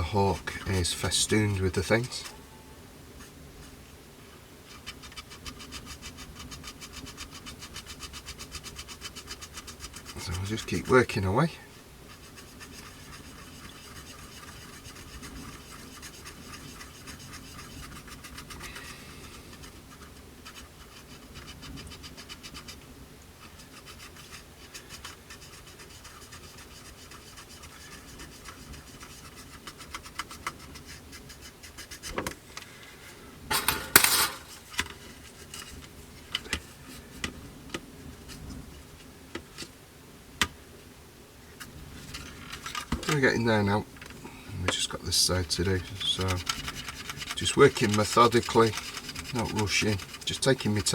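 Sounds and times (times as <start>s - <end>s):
rubbing and scratching plastic: 0.0s - 2.4s, 3.2s - 4.0s, 4.6s - 32.4s, 33.5s - 39.7s, 41.5s - 50.9s.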